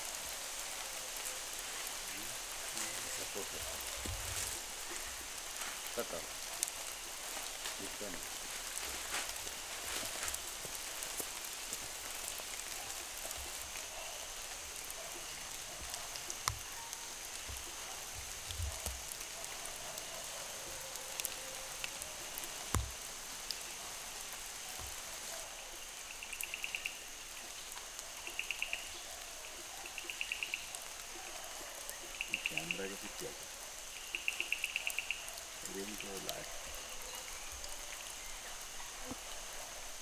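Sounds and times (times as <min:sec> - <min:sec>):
insect chirping trills: 0:00.0 - 0:40.0
rain through forest foliage: 0:00.0 - 0:40.0.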